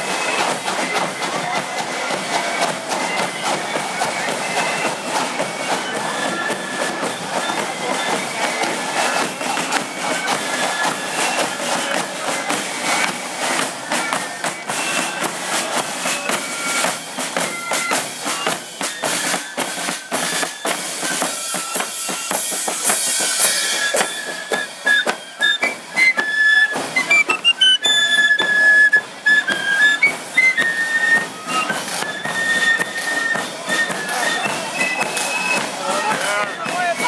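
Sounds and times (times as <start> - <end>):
drum beat: 0.0 - 37.0
flutes playing high melody: 0.0 - 37.0.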